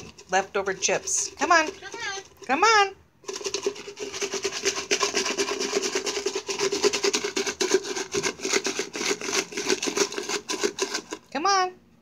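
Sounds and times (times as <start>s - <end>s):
chips rattling in a shaken can: 0.0s - 2.5s, 3.2s - 11.3s.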